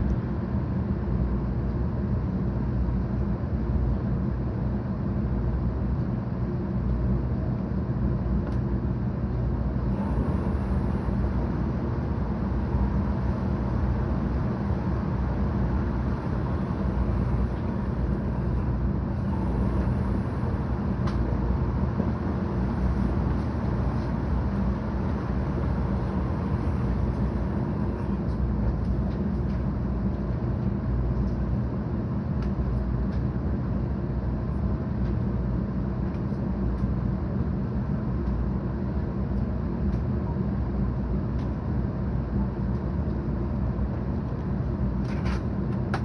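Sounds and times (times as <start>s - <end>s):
train rumbling on tracks: 0.0s - 46.0s.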